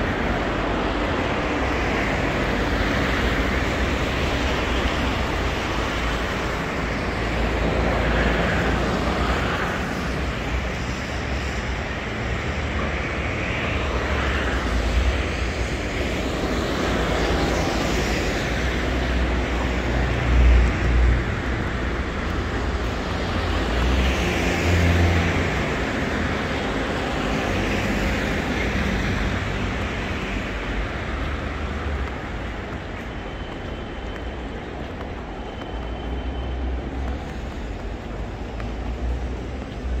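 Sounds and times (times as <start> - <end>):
city street traffic: 0.0 - 40.0
heavy vehicles rumbling past: 0.0 - 40.0.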